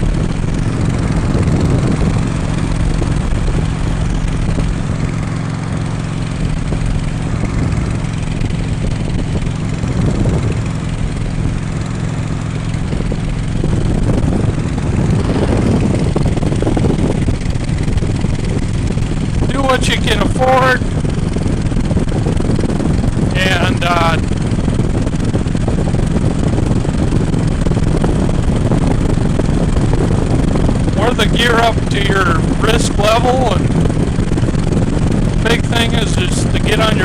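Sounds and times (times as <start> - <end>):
motorcycle engine cruising: 0.0 - 37.0
wind rush on microphone: 0.0 - 37.0.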